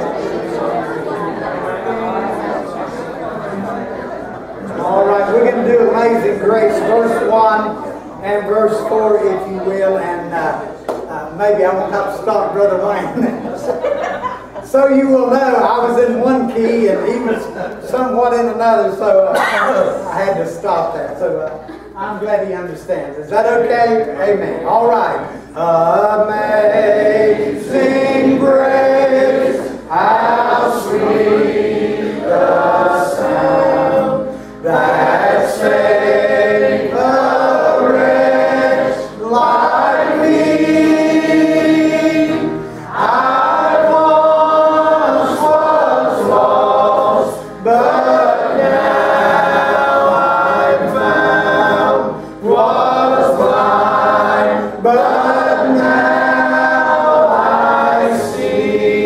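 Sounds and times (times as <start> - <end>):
congregation singing a hymn: 0.0 - 21.0, 23.5 - 59.0
acoustic guitar: 0.0 - 59.0.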